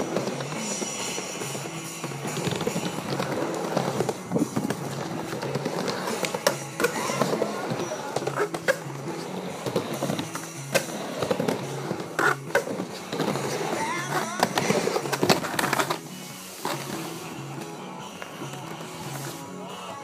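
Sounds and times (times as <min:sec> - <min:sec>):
music: 0:00.0 - 0:20.0
skateboard wheels rolling on wood: 0:00.0 - 0:20.0.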